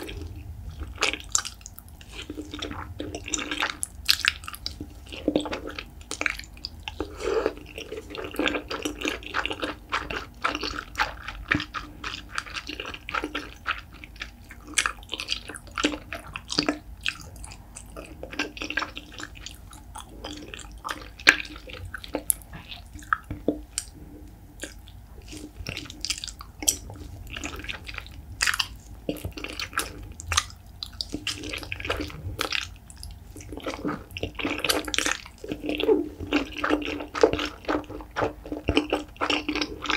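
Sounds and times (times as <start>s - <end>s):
noodles slurped: 0.0s - 39.9s
wet sticky chewing: 0.0s - 39.9s.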